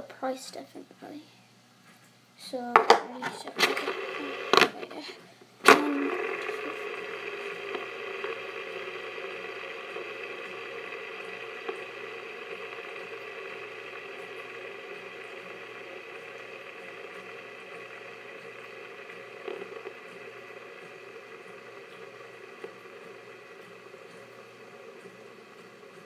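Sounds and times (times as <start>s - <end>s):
fidget spinner whirring: 3.1s - 26.0s
fidget spinner clicks: 3.4s - 5.0s, 5.6s - 26.0s.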